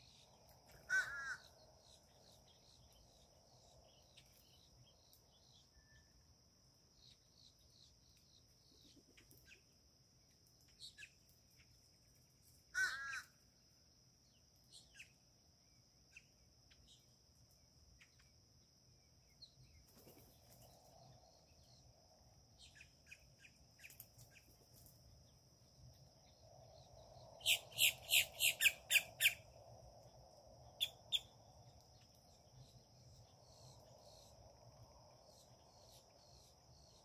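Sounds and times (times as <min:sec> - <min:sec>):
faint bird chirps: 0:00.0 - 0:09.8, 0:10.6 - 0:11.9, 0:14.2 - 0:17.2, 0:17.9 - 0:37.0.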